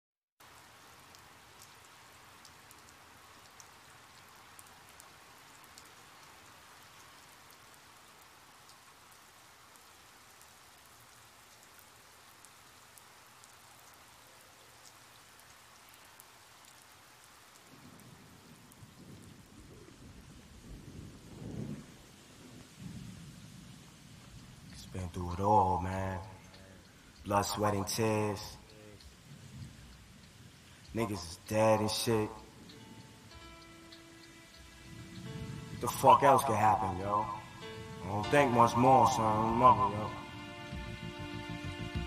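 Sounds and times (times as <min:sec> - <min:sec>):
steady rain falling: 0:00.4 - 0:42.0.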